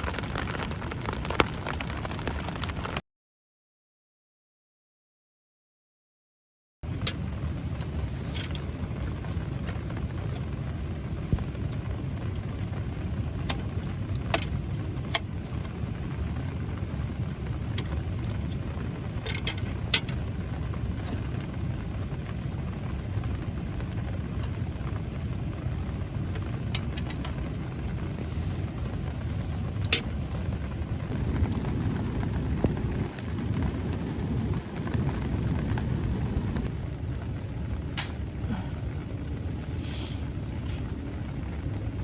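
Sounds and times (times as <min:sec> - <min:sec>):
rain drumming on a tarp: 0:00.0 - 0:03.0, 0:06.8 - 0:42.0.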